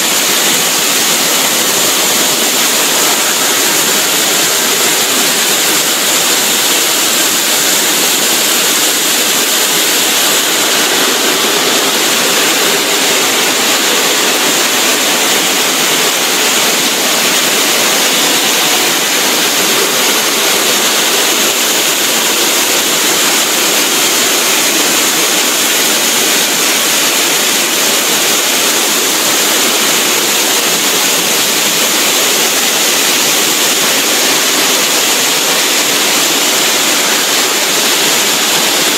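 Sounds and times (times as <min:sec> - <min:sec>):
circular saw cutting stone: 0:00.0 - 0:38.9
water spray rushing: 0:00.0 - 0:38.9.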